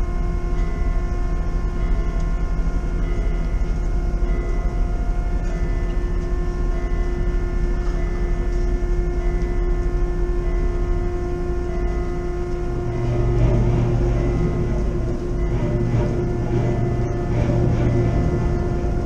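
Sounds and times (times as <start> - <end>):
ferry engines rumbling: 0.0 - 19.0.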